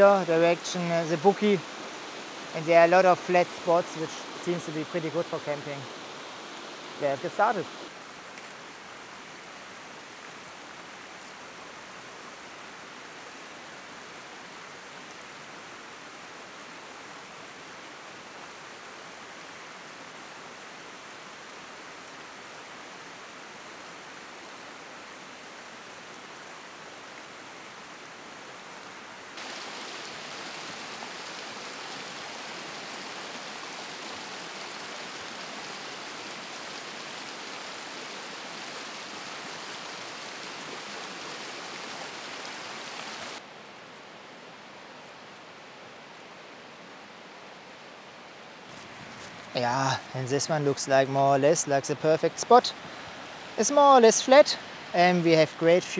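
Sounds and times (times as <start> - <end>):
water rushing over stones: 0.0 - 28.2, 29.3 - 43.4, 48.7 - 55.9.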